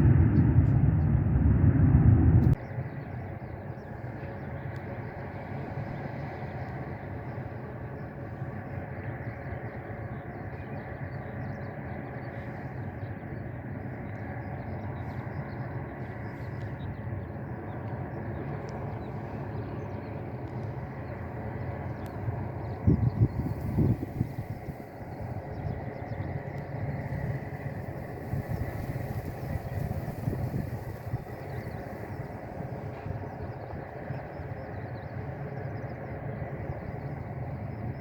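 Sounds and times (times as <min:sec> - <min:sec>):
faint steady whine: 0:00.0 - 0:38.0
low engine drone: 0:00.0 - 0:38.0.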